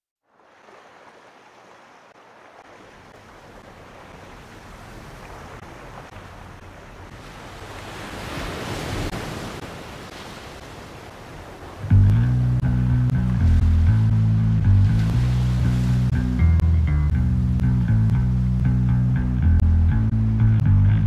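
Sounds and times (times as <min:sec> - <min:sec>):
water rushing past boat hull: 0:00.2 - 0:18.7.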